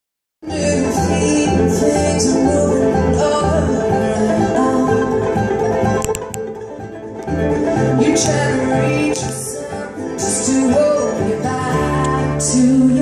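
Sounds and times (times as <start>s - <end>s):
acoustic guitars: 0.4s - 13.0s
banjo: 0.4s - 13.0s
mandolin: 0.4s - 13.0s
upright bass: 0.4s - 13.0s.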